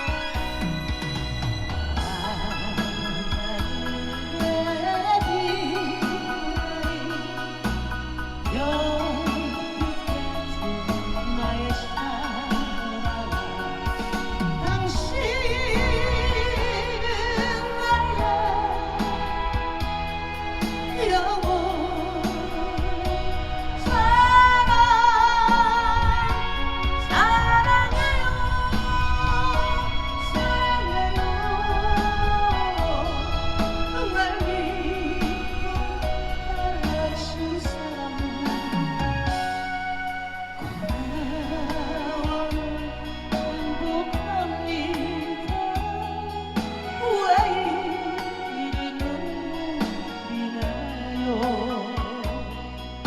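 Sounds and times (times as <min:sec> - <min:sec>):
backing music with steady beat: 0:00.0 - 0:53.0
instrumental accompaniment: 0:00.0 - 0:53.0
woman singing a slow ballad: 0:00.0 - 0:53.0.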